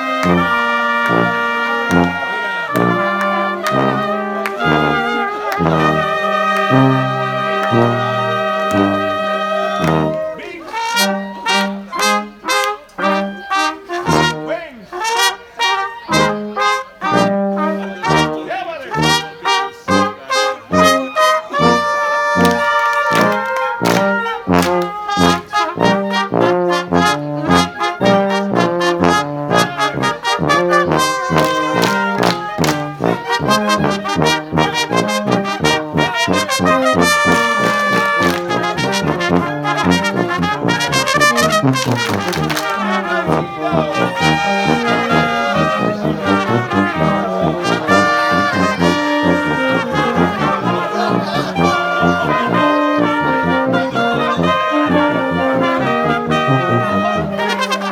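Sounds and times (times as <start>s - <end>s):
brass polka music: 0.0s - 57.9s.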